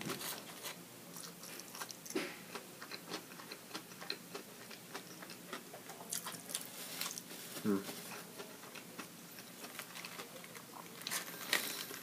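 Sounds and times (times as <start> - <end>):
person chewing food: 0.0 - 11.9.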